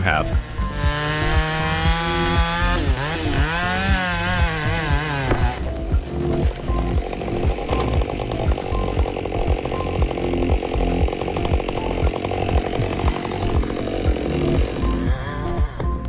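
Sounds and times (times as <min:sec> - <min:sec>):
chainsaw cutting log: 0:00.0 - 0:16.0.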